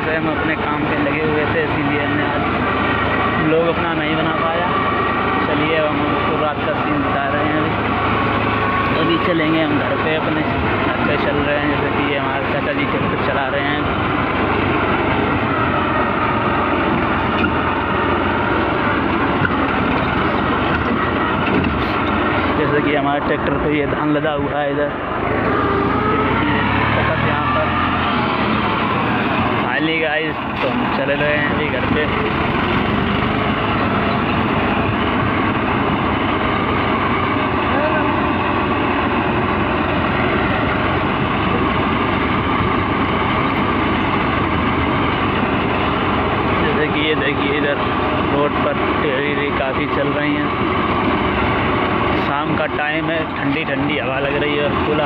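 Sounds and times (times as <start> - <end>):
road noise: 0.0 - 55.0
tractor engine running: 0.0 - 55.0.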